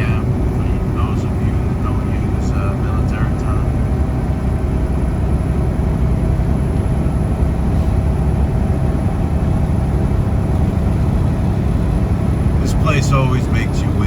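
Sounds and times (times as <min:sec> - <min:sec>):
road noise: 0:00.0 - 0:14.0
truck engine drone: 0:00.0 - 0:14.0.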